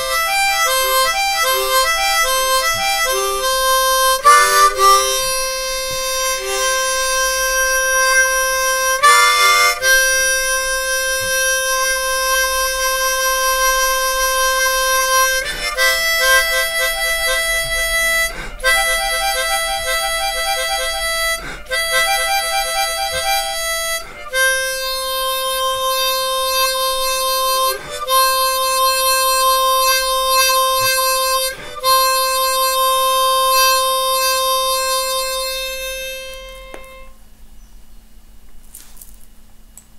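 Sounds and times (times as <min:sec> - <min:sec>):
harmonica long held notes: 0:00.0 - 0:37.2.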